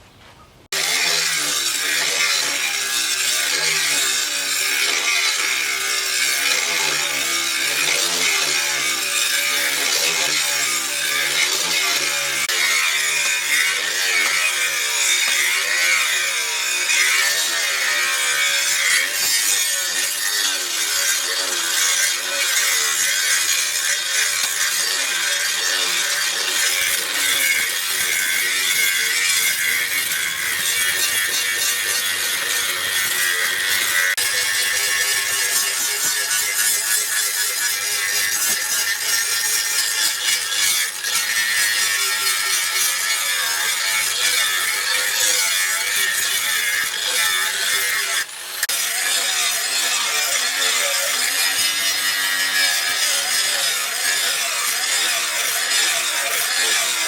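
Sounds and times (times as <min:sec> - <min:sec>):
power grinder grinding steel: 0:00.6 - 0:57.0.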